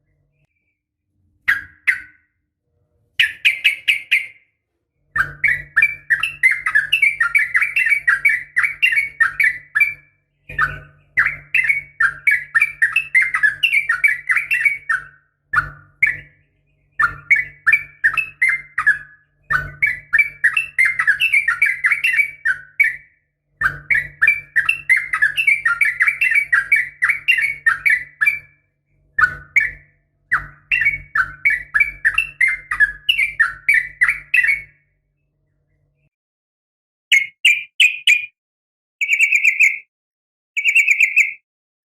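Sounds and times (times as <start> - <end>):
bird chattering song: 1.4 - 2.3, 3.2 - 4.5, 5.1 - 28.6, 29.2 - 34.8, 37.1 - 38.4, 39.0 - 39.9, 40.6 - 41.4.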